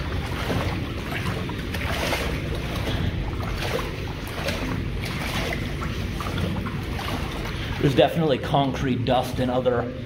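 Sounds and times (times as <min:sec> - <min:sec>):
boots splashing through water: 0:00.0 - 0:09.4
shallow water running in metal pipe: 0:00.0 - 0:10.0.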